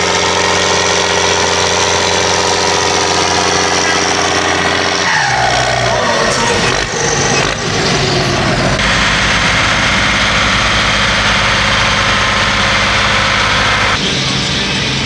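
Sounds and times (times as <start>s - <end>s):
tractor engine rumbling: 0.0s - 14.2s.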